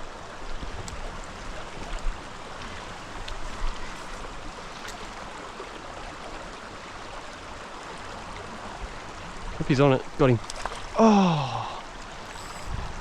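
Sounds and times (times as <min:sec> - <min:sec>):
mountain stream over rocks: 0:00.0 - 0:13.0.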